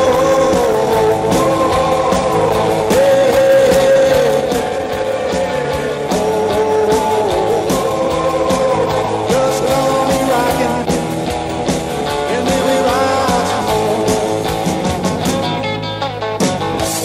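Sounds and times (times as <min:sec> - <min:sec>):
rock and roll lead guitar: 0:00.0 - 0:17.0
steady drum beat: 0:00.0 - 0:17.0.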